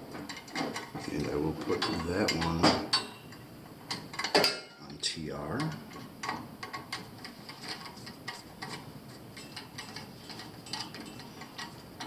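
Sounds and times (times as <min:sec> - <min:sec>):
clicks and scrapes of wiring work: 0:00.0 - 0:12.0.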